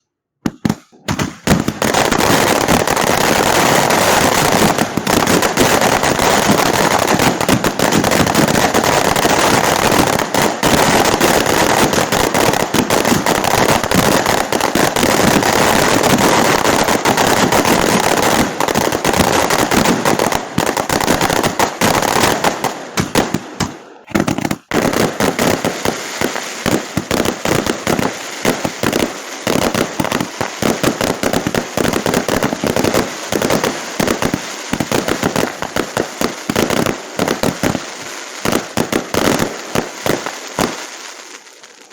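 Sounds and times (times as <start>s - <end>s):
fireworks crackling: 0.4s - 41.9s.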